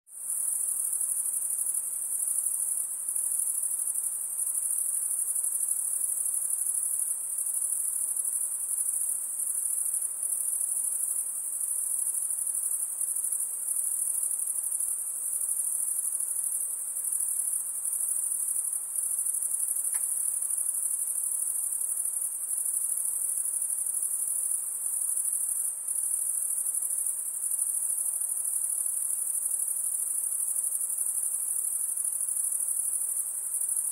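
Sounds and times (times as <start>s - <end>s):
high-pitched insect chorus: 0.2s - 33.9s.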